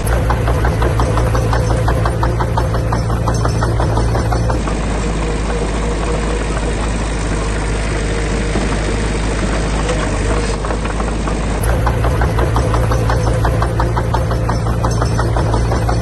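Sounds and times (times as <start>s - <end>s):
heavy diesel engine clattering: 0.0s - 16.0s.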